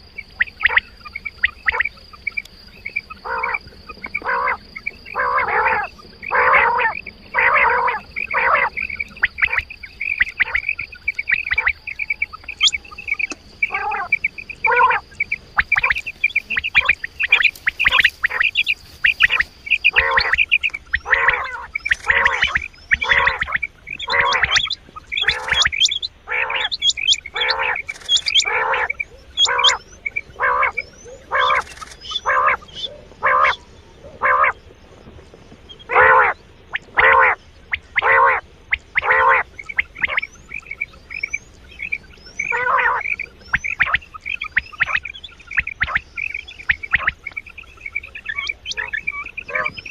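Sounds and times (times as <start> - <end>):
recorded quail calls: 0.0 - 49.9.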